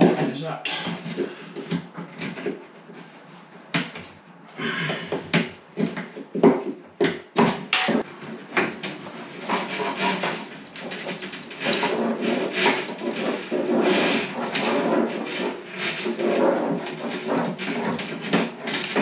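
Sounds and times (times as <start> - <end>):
rods scraping and knocking on board: 0.0 - 19.0.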